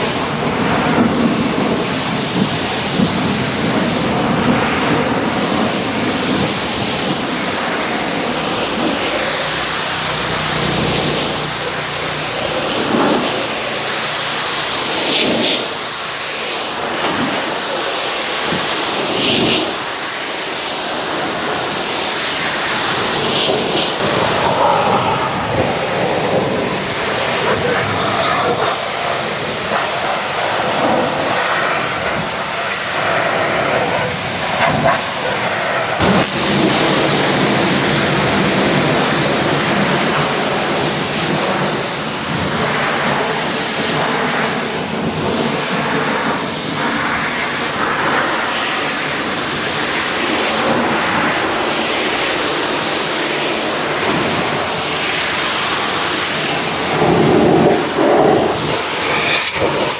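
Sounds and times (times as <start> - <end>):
pressure washer water jet hissing: 0.0 - 59.9.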